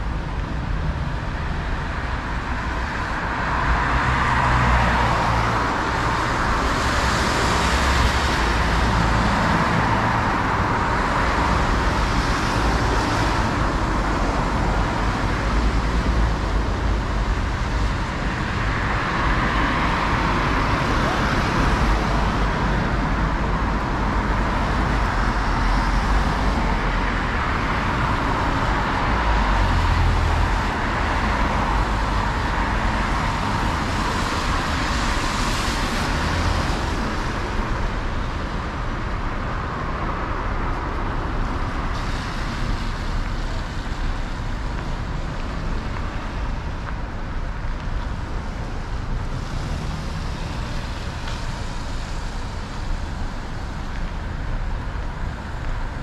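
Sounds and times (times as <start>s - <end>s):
traffic on a wet road: 0.0s - 56.0s.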